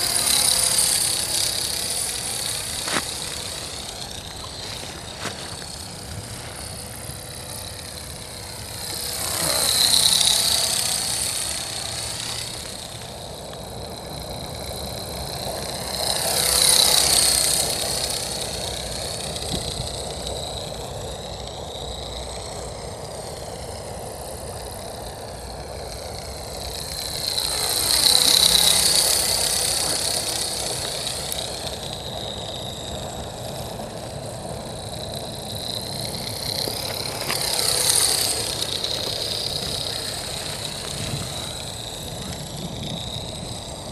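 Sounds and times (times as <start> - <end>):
model helicopter rotor whine: 0.0 - 43.9.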